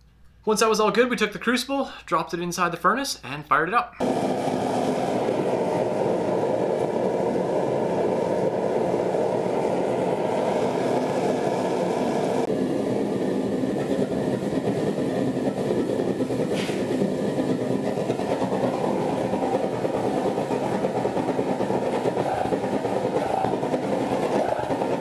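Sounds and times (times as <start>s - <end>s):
propane burner flame roaring: 4.0s - 25.0s.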